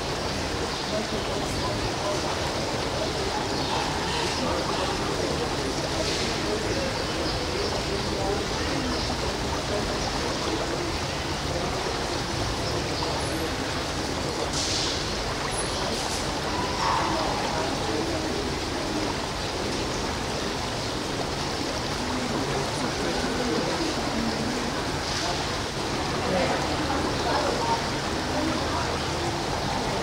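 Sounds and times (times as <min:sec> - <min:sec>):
faint murmur of voices: 0:00.0 - 0:30.0.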